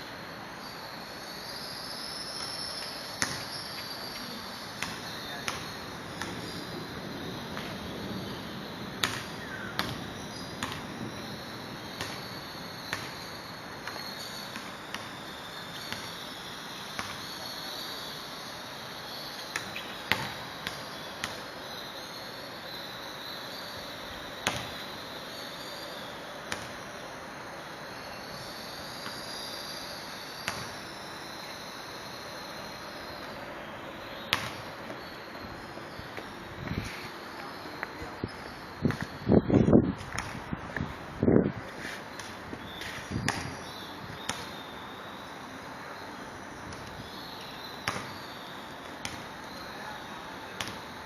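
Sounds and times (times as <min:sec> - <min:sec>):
high insect trill: 0:00.0 - 0:39.7, 0:42.6 - 0:51.0.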